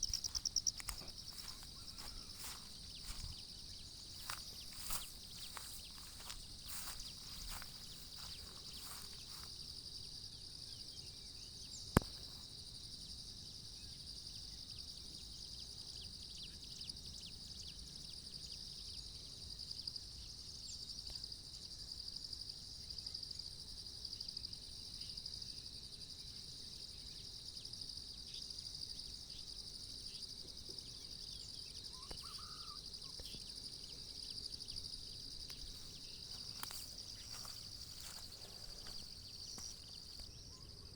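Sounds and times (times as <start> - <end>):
insect chorus trilling: 0.0 - 40.9.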